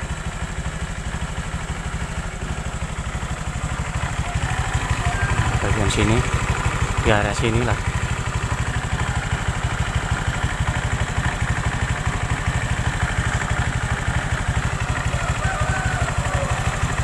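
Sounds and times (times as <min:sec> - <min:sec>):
scooter engine idling: 0:00.0 - 0:17.0.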